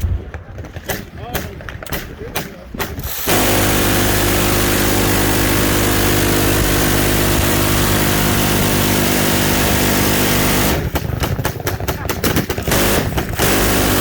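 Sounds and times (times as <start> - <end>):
machine gun firing: 0.7 - 14.0.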